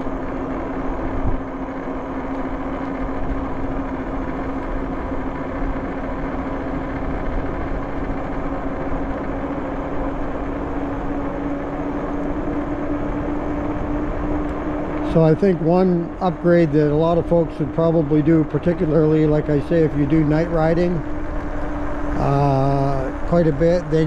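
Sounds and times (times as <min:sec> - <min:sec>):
electric bike motor whine: 0:00.0 - 0:24.0
wind and tyre noise: 0:00.0 - 0:24.0.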